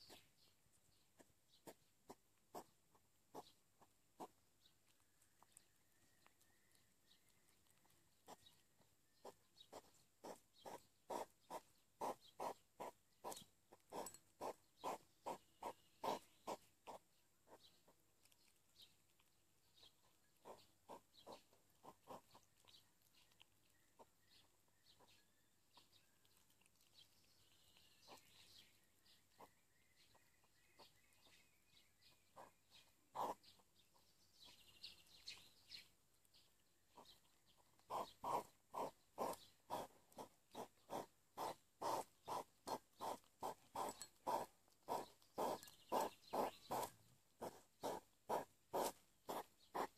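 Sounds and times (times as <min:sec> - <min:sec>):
hedgehogs chewing food: 0:00.0 - 0:49.9.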